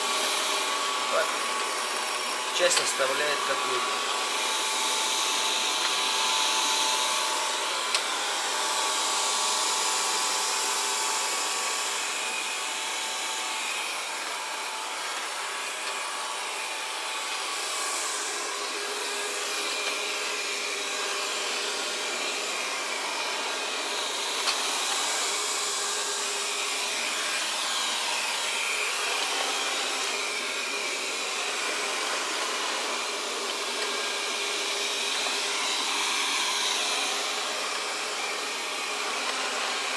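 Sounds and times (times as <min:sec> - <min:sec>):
robot vacuum motor whirring: 0:00.0 - 0:39.9.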